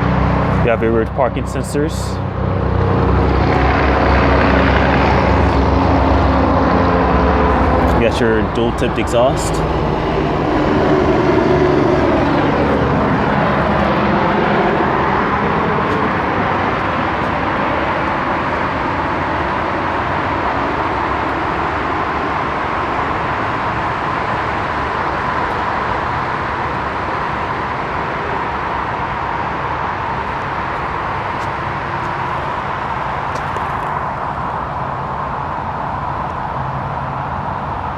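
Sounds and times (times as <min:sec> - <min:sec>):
vehicle passing by: 0:00.0 - 0:35.0.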